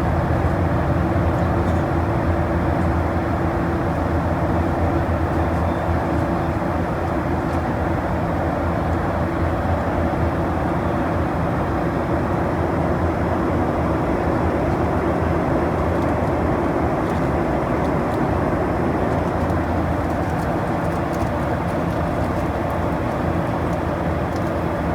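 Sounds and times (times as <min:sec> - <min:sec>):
aircraft engine and airflow drone: 0:00.0 - 0:24.9.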